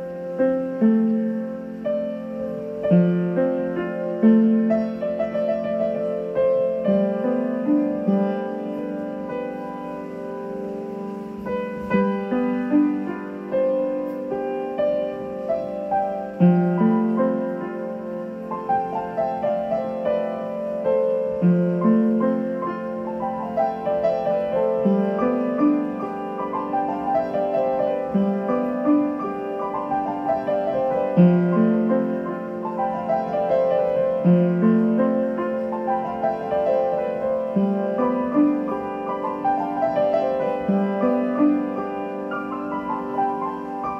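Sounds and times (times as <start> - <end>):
solo piano broken chords: 0.0 - 43.9.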